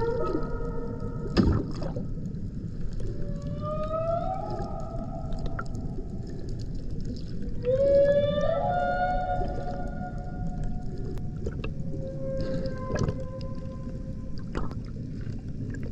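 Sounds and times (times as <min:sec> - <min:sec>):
whale calls underwater: 0:00.0 - 0:14.6
low underwater hiss: 0:00.0 - 0:15.9.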